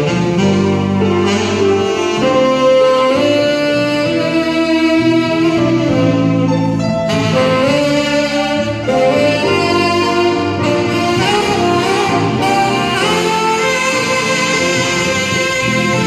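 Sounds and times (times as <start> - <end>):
electric bass guitar: 0.0 - 16.0
grand piano: 0.0 - 16.0
saxophone playing jazz melody: 0.0 - 16.0.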